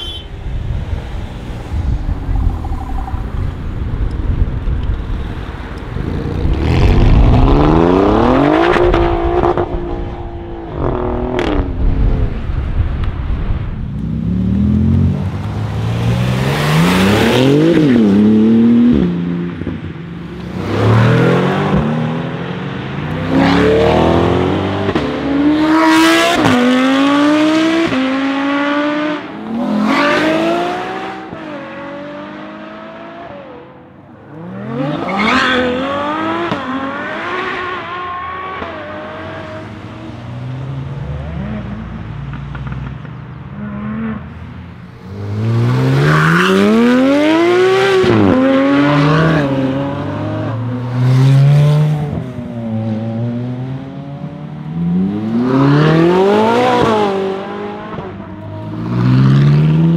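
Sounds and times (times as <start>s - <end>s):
sports car engines revving: 5.3s - 12.4s, 14.0s - 33.7s, 34.3s - 59.9s.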